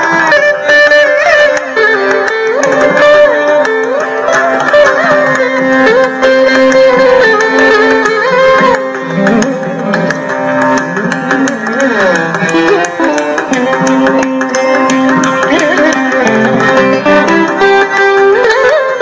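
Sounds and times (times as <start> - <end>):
electric mandolin melody: 0.0 - 19.0
hand drum: 0.0 - 19.0.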